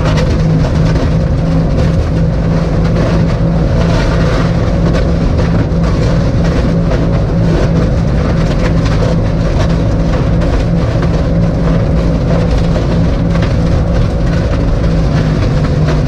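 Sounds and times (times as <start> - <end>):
airboat engine and propeller: 0.0 - 16.0.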